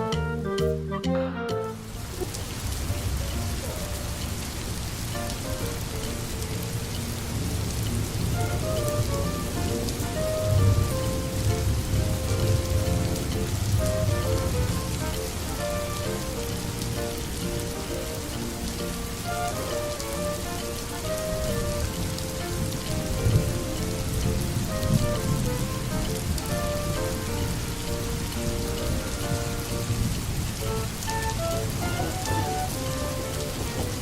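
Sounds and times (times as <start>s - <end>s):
soft instrumental melody: 0.0s - 34.0s
steady rainfall: 0.0s - 34.0s.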